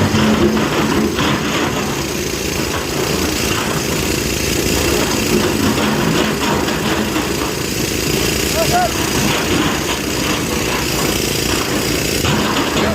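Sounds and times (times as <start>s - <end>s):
heavy diesel engine running: 0.0s - 12.9s.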